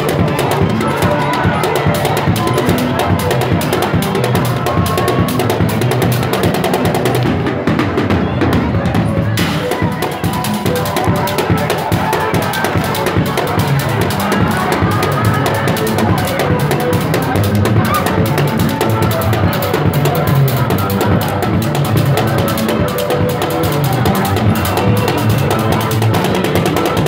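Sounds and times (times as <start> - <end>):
crowd singing: 0.0 - 27.0
drum kit playing busy beat: 0.0 - 27.0.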